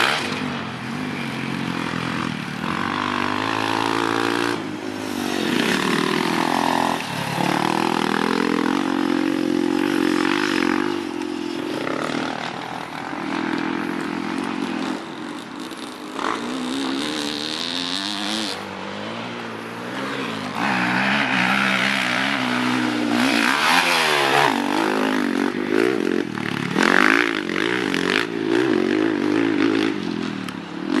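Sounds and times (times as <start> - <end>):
motocross engine revving: 0.0 - 30.0.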